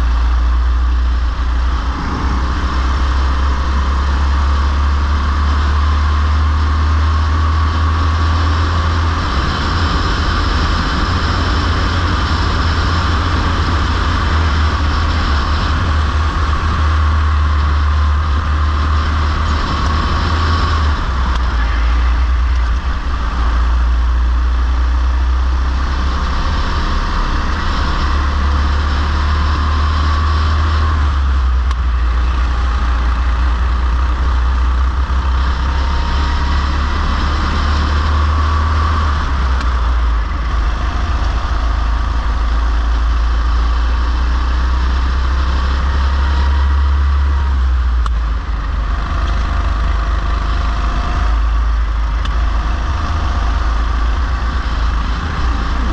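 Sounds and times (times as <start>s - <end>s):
go-kart engine running: 0.0s - 55.9s.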